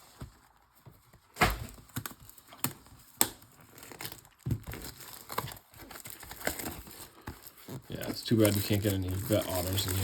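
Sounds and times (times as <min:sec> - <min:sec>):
foil card packs crinkling: 0:01.1 - 0:10.0.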